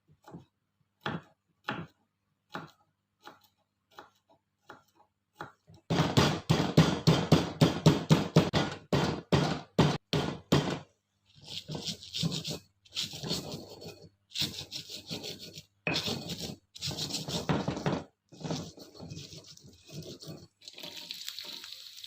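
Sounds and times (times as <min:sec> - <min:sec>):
knife chopping on cutting board: 0:01.0 - 0:20.5.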